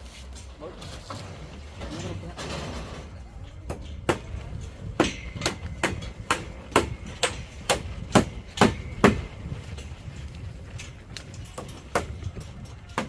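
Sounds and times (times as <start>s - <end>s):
hammer blows: 2.4s - 13.0s.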